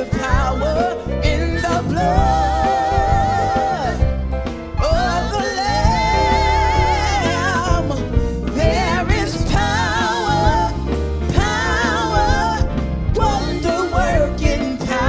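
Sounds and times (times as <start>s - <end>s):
person singing gospel hymn: 0.0s - 15.0s
steady bass: 0.0s - 15.0s.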